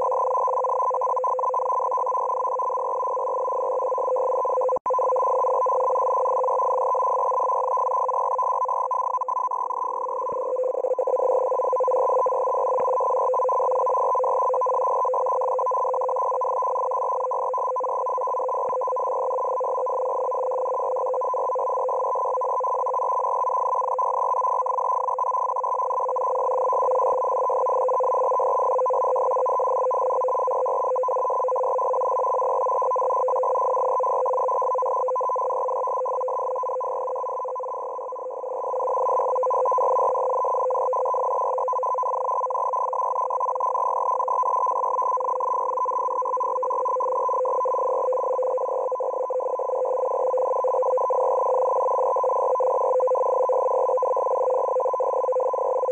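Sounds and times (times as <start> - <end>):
buzzing data tones on radio: 0.0 - 55.9.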